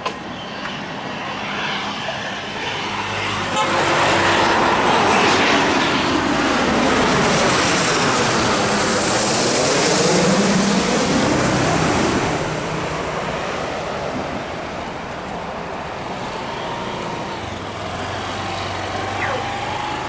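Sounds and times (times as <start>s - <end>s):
jet engines passing by: 0.0s - 20.0s.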